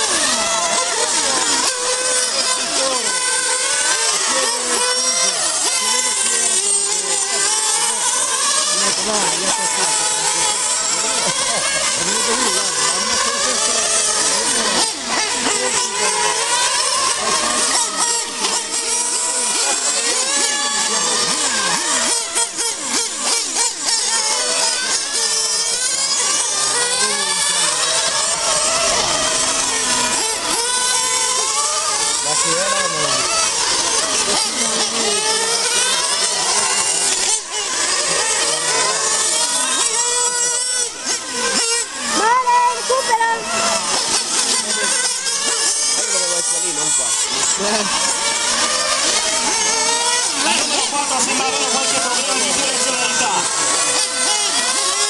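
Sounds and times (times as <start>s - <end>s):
model race car engines: 0.0s - 55.0s.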